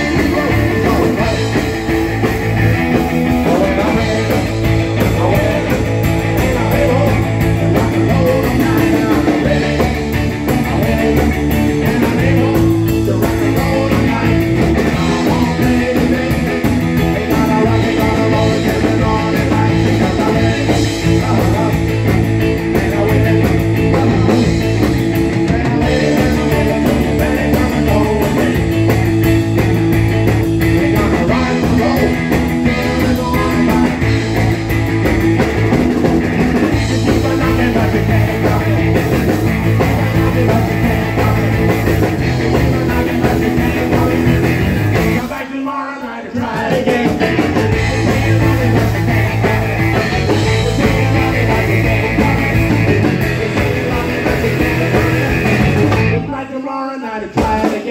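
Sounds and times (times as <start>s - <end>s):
man singing: 0.0s - 34.8s, 35.6s - 57.9s
electric bass: 0.0s - 45.4s, 46.7s - 56.5s
steady drum beat: 0.0s - 45.4s, 46.4s - 56.3s, 57.4s - 57.9s
electric guitar: 0.0s - 57.9s.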